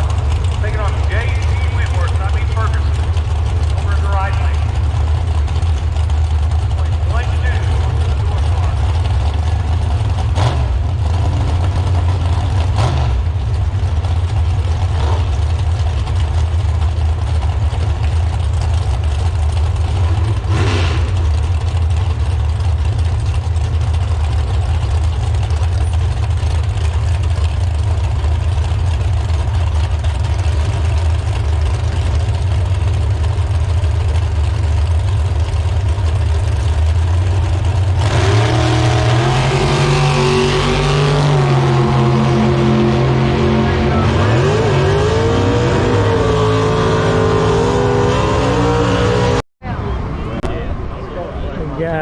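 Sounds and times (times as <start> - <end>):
engine idling: 0.0 - 47.6.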